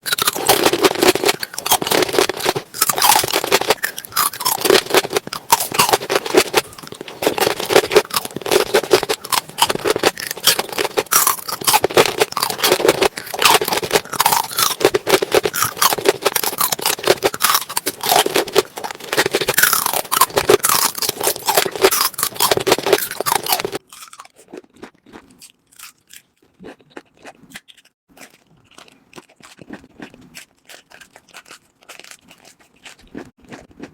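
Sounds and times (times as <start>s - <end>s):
crunching and chewing of food: 0.0s - 33.9s.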